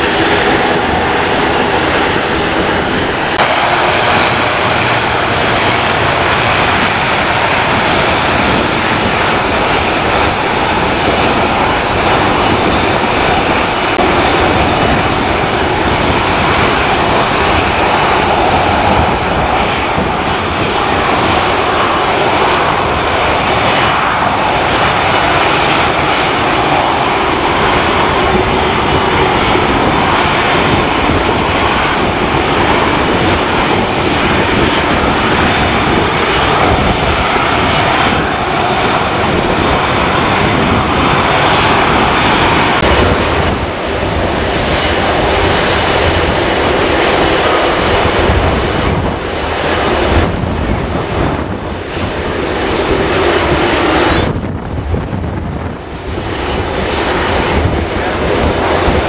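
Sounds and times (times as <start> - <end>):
turboprop airliner taking off: 0.0 - 59.0
wind buffeting microphone: 0.0 - 59.0.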